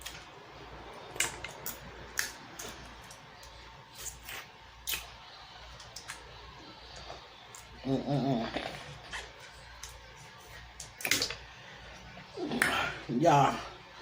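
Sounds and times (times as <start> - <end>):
wet eating sounds: 1.0 - 13.1.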